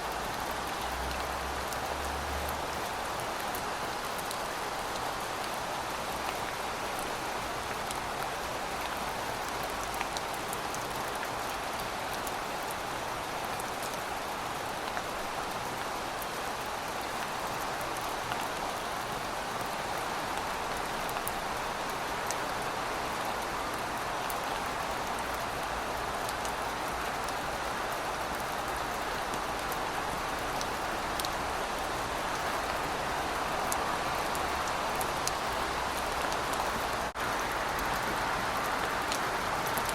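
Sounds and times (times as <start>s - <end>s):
rain falling on pavement: 0.0s - 39.9s.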